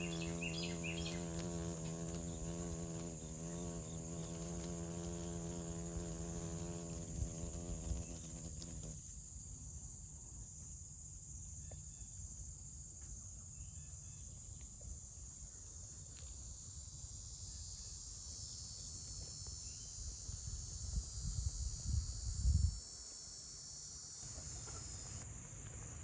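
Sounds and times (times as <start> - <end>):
high-pitched insect chorus: 0.0 - 26.0
low insect buzz: 0.0 - 26.0.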